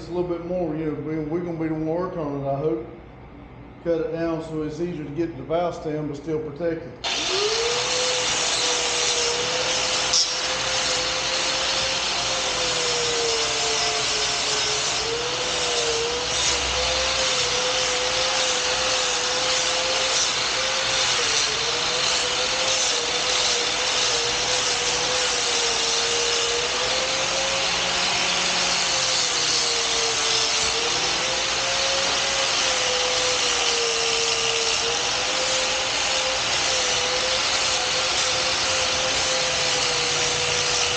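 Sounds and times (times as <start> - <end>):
angle grinder grinding: 7.0 - 40.9.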